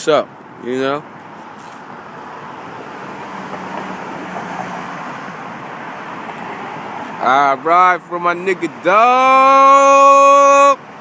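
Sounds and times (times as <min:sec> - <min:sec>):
road traffic rush: 0:00.0 - 0:11.0.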